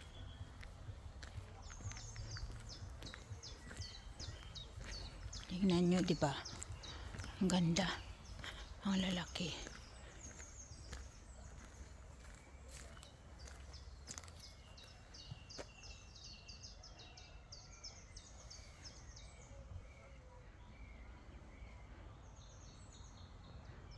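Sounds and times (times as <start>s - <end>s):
bird chirping: 0.0s - 23.9s.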